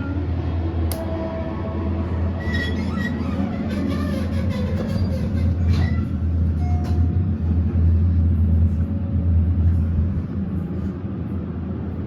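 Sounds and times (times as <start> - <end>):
elevator humming in motion: 0.0 - 12.0.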